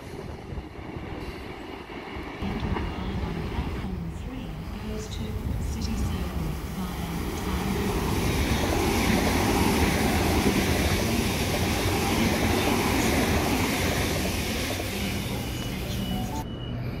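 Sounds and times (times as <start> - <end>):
train wheels rumbling on rail: 0.0 - 16.4.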